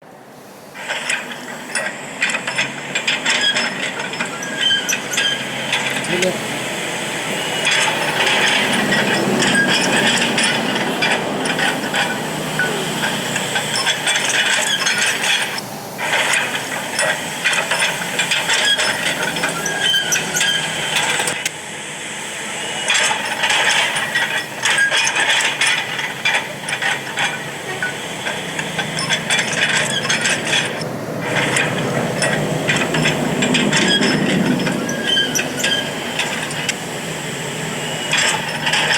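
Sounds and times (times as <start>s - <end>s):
engine running under load: 0.0s - 38.9s
excavator tracks clanking: 0.8s - 21.6s, 22.4s - 38.9s.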